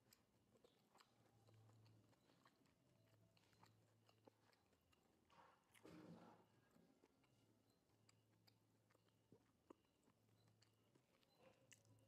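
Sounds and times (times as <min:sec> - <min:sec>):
chewing fried food: 0:00.0 - 0:12.0.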